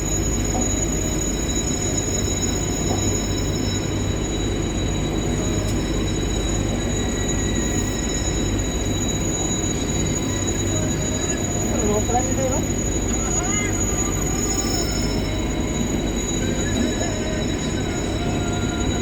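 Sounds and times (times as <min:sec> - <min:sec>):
electric locomotive rumbling: 0:00.0 - 0:19.0
thin high-pitched whines: 0:00.0 - 0:19.0.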